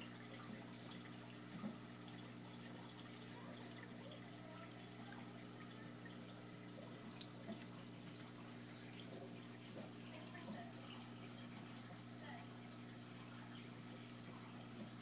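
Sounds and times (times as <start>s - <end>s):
low pump hum: 0.0s - 15.0s
trickling and dripping water: 0.0s - 15.0s.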